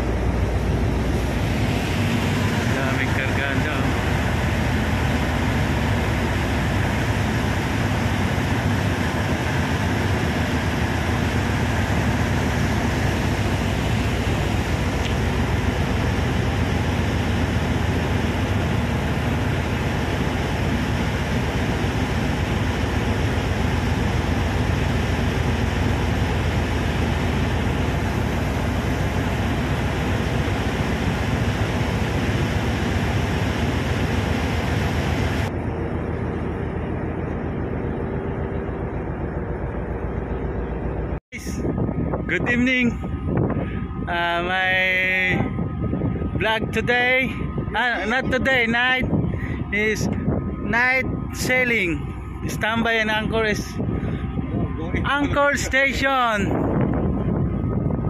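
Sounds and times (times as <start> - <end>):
rushing noise: 0.0 - 58.0
ship engines rumbling drone: 0.0 - 58.0.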